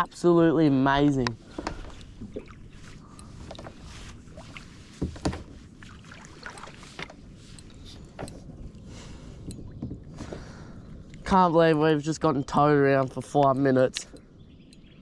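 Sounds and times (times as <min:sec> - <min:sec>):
water noise: 0:00.0 - 0:15.0
wind noise: 0:01.0 - 0:13.4.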